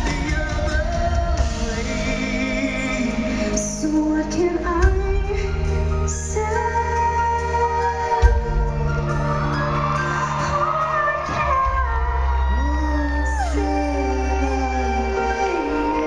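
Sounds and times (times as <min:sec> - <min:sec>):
live band accompaniment: 0:00.0 - 0:16.0
man and woman singing duet: 0:00.0 - 0:16.0.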